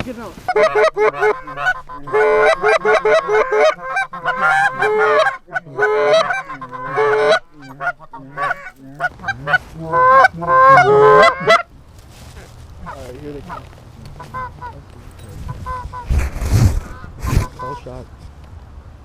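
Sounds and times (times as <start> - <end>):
geese honking and clucking: 0.0 - 18.0.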